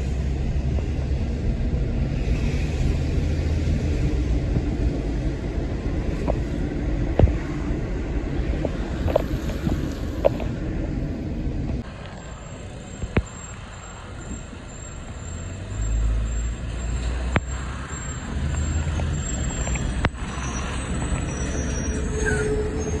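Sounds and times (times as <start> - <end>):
in-car road and wind noise: 0.0 - 23.0.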